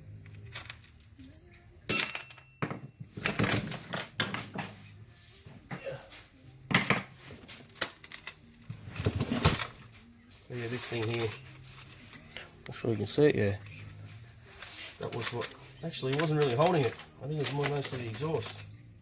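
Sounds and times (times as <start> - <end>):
metal tools clinking and rattling: 0.4 - 4.9, 6.7 - 10.0, 10.6 - 19.0.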